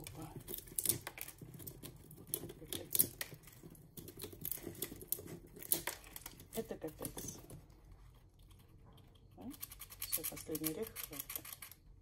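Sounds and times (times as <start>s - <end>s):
squirrel gnawing cone: 0.0s - 12.0s.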